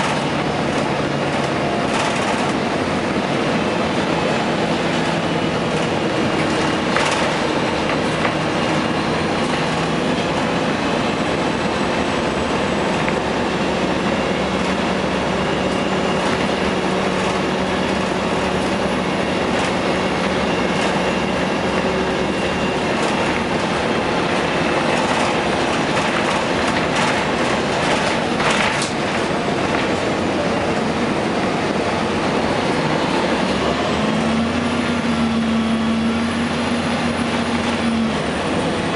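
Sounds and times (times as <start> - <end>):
diesel bus engine running: 0.0 - 38.9.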